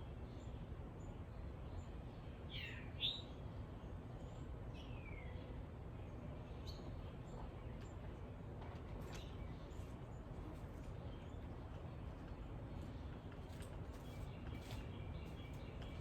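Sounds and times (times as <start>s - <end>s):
songbirds chirping: 0.1s - 16.0s.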